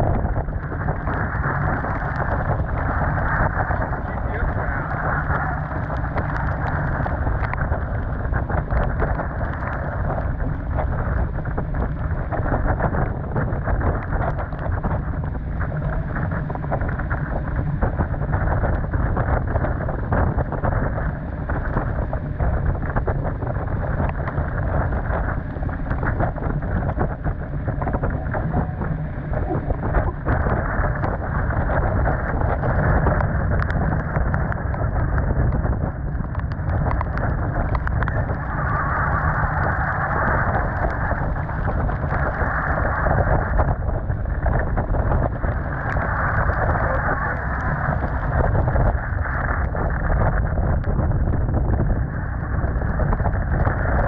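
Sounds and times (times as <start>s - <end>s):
rain spattering on deck: 0.0s - 50.9s
storm wind buffeting microphone: 0.0s - 54.0s.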